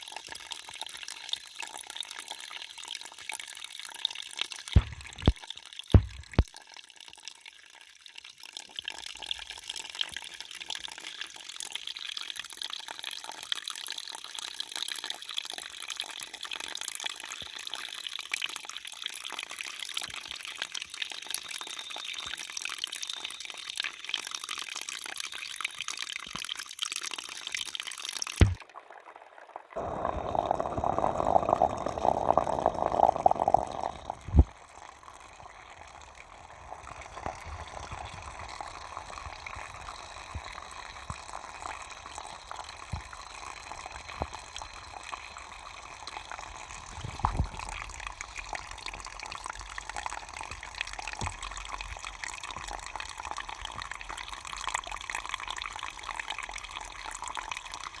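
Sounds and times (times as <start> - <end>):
water running and trickling: 0.0 - 58.0.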